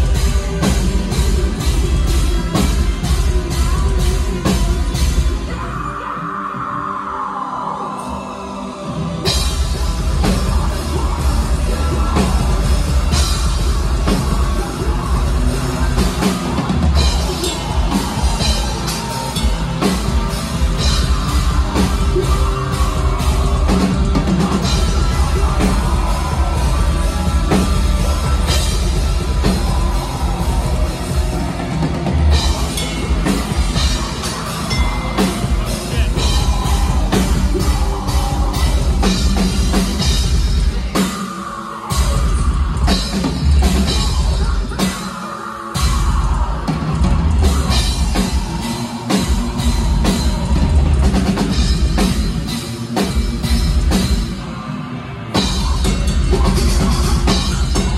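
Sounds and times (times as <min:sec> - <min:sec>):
pounding drum kit: 0:00.0 - 0:06.7, 0:08.8 - 0:57.9
bass guitar: 0:00.0 - 0:41.2, 0:41.9 - 0:45.0, 0:45.7 - 0:57.9
distorted guitars: 0:00.0 - 0:57.9
person singing into microphone: 0:00.0 - 0:57.9.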